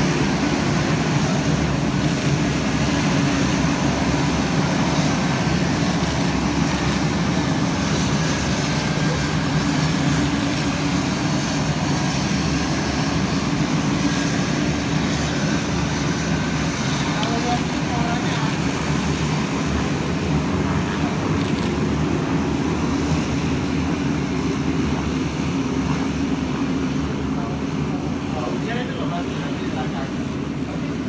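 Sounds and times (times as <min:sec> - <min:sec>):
propeller aircraft engines droning: 0:00.0 - 0:31.0.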